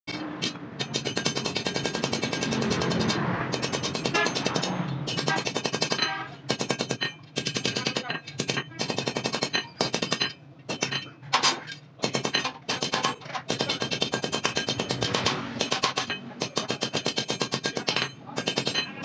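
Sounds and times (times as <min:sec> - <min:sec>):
hammer striking steel bar: 0:00.1 - 0:19.0.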